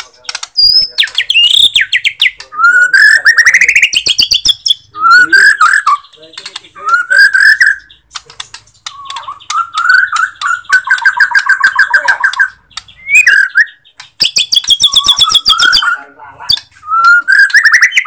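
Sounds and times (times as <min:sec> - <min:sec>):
bird singing whistled phrases: 0:00.6 - 0:06.1, 0:06.8 - 0:08.0, 0:08.9 - 0:18.0.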